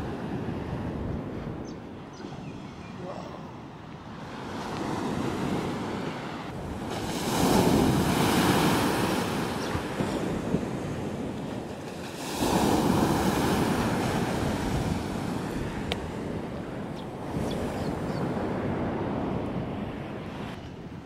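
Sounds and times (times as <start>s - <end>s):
waves crashing on beach: 0.0s - 1.4s, 3.4s - 21.0s.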